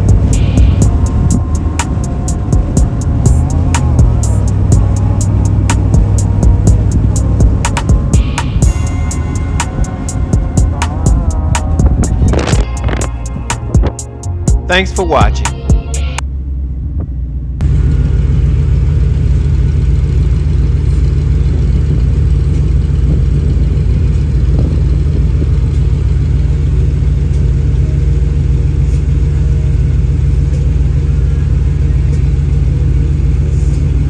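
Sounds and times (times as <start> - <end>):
pickup engine idling: 0.0 - 34.0.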